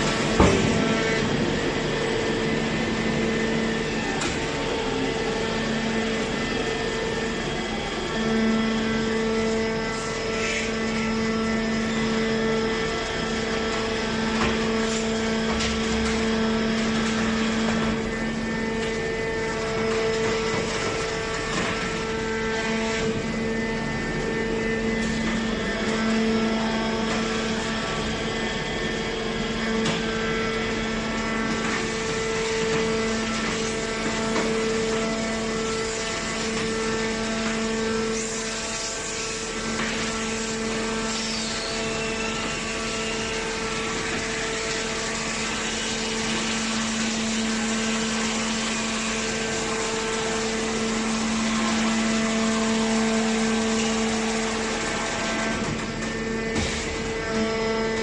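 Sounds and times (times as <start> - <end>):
baler power unit hum: 0.0 - 58.0
machine noise: 0.0 - 58.0.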